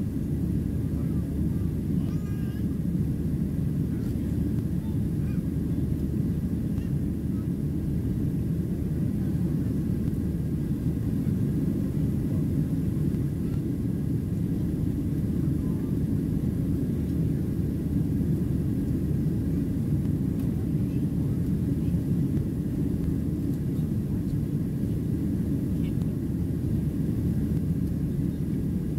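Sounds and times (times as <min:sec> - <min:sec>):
jet engines rumbling in cabin: 0:00.0 - 0:28.9.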